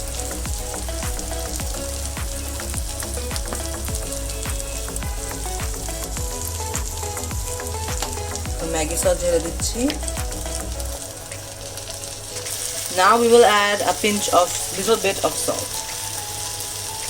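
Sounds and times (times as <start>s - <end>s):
gravy sizzling in a frying pan: 0.0s - 17.0s.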